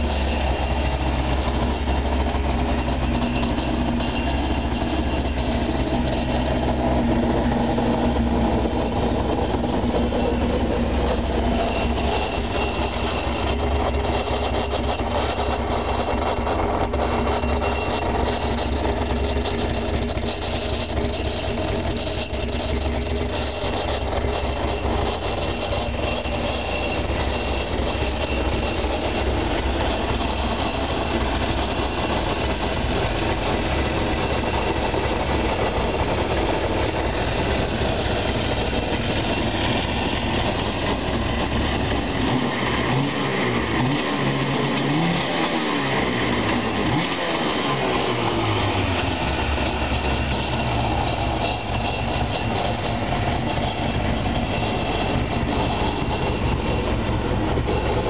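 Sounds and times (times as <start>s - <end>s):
watercraft engine idling: 0.0s - 42.4s, 48.2s - 58.0s.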